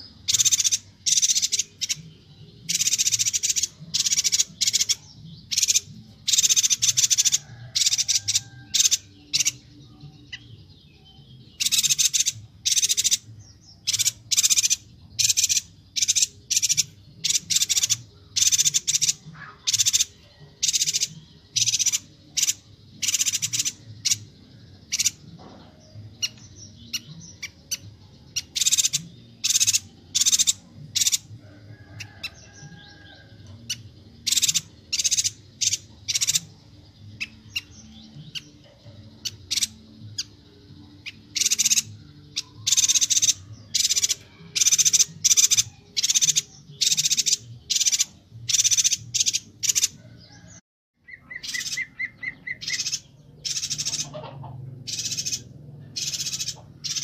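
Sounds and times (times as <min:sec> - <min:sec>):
bird chirping high: 0:00.0 - 0:57.0.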